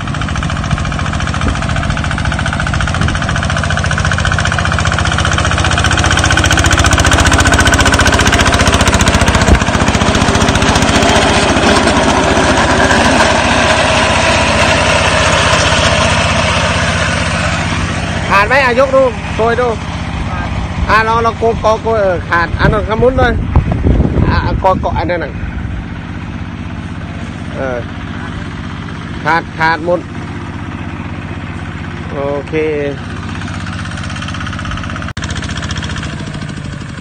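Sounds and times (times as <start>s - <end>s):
slasher cutting through grass: 0.0s - 37.0s
tractor engine running under load: 0.0s - 37.0s.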